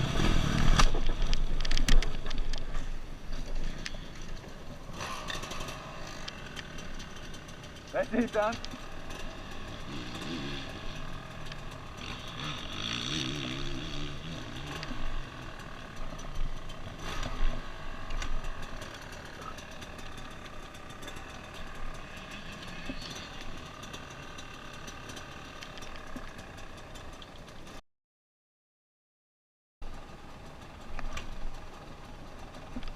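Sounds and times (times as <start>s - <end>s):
motorcycle engine running: 0.0s - 27.8s, 29.8s - 32.9s.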